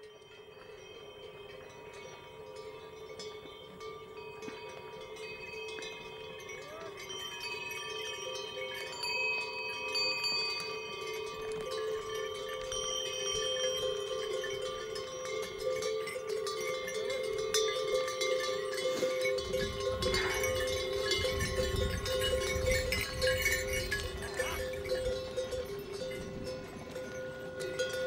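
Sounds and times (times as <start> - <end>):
pack animal bells jingling: 0.0 - 28.0.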